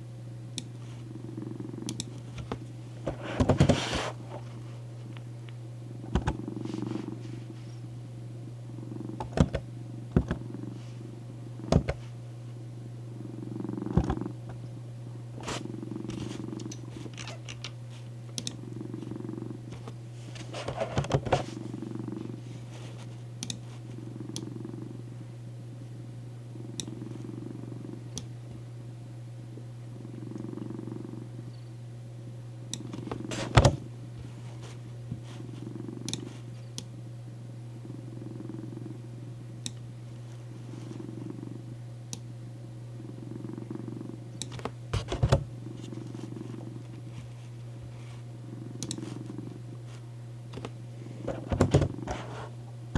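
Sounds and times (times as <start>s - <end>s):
cat purring: 0.6s - 5.2s, 6.0s - 25.2s, 26.5s - 28.3s, 29.5s - 31.7s, 32.7s - 36.8s, 37.7s - 41.8s, 42.9s - 52.6s.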